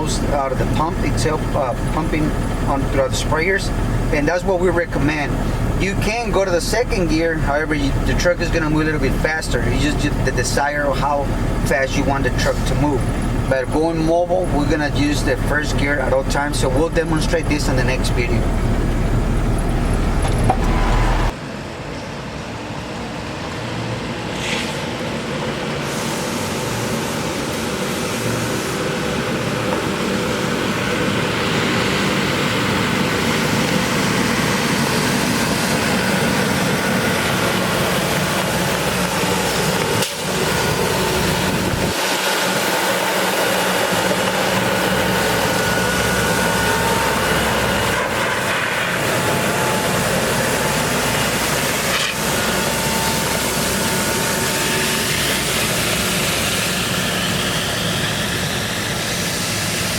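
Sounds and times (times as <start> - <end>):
diesel truck engine running: 0.0 - 21.9, 22.5 - 59.9.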